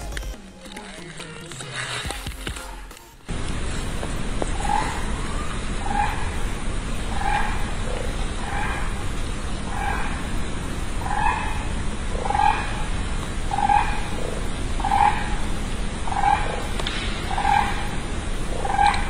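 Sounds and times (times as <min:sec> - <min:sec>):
toucan calling: 0:00.0 - 0:19.0.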